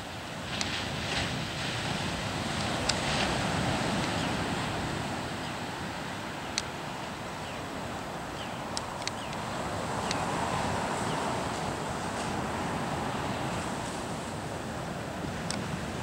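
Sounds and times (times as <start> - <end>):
gentle ocean surf: 0.0 - 16.0
wind on microphone: 0.0 - 16.0.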